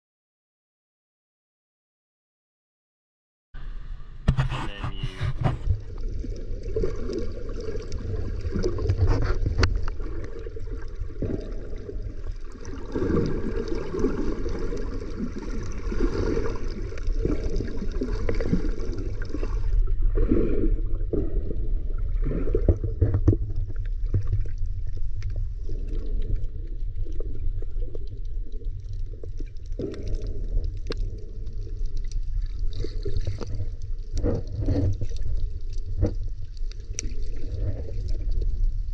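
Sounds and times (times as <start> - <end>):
underwater low rumble: 3.6 - 38.9
water gurgling and crackling: 3.8 - 38.9.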